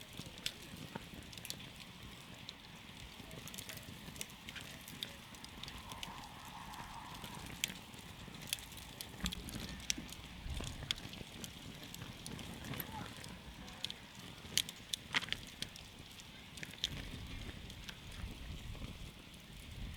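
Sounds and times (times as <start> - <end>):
campfire crackling and popping: 0.0 - 19.9
low rush of flame: 0.0 - 19.9.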